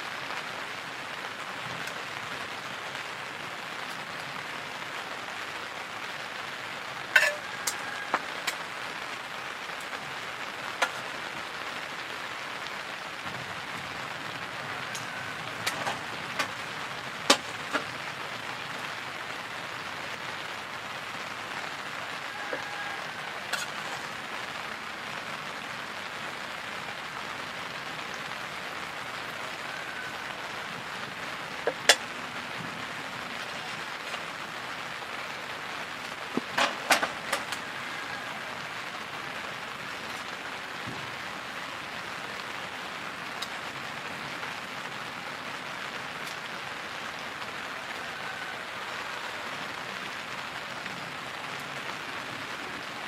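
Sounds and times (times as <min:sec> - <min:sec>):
sharp raindrops striking: 0:00.0 - 0:53.0
steady rain falling: 0:00.0 - 0:53.0.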